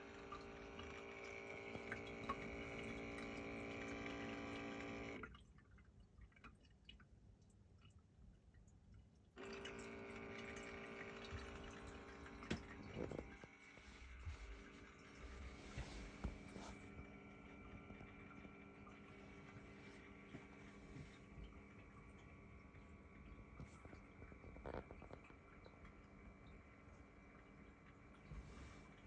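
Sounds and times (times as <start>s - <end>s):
water fountain pump humming: 0.0s - 7.7s, 9.2s - 29.0s
trickling water: 0.0s - 29.0s.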